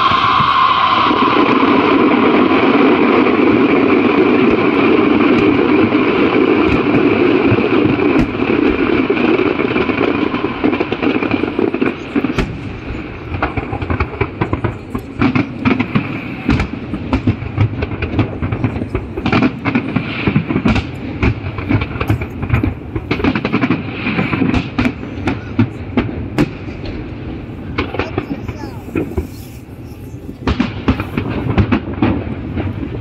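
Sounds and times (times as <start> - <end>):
fireworks popping and banging: 0.0 - 33.0.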